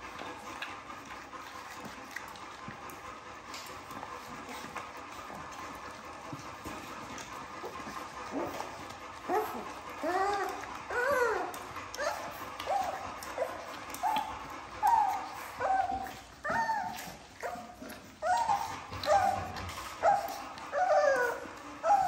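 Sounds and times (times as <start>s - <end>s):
puppies whining and yipping: 0.0s - 22.0s.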